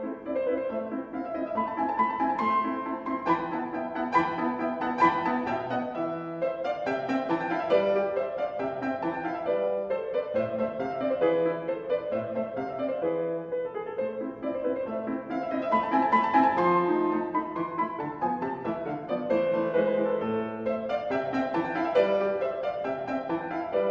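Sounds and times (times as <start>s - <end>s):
piano melody: 0.0s - 23.9s.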